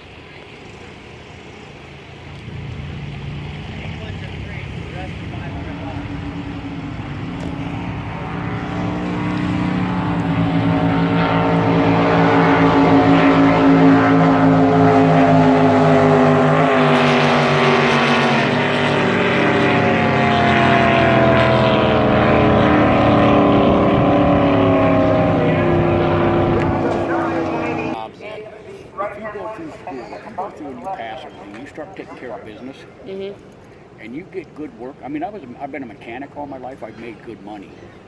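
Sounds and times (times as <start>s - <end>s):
racing boat engine: 0.0s - 38.0s.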